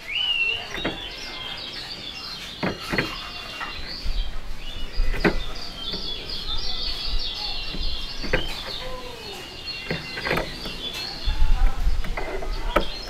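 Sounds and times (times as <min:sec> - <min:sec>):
birds twittering song: 0:00.0 - 0:13.0.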